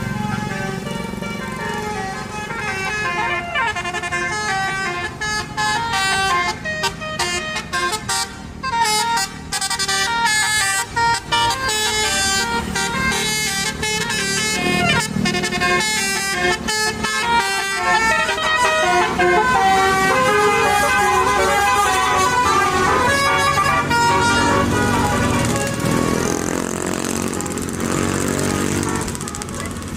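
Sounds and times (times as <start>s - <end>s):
musical air horn melody: 0.0s - 29.8s
bus engine rumble: 0.0s - 29.9s.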